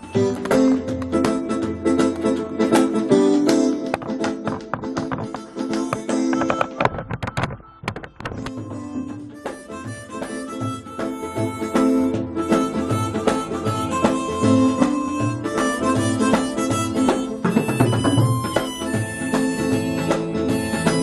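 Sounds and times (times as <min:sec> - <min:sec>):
harmonicas playing melody: 0:00.0 - 0:21.0.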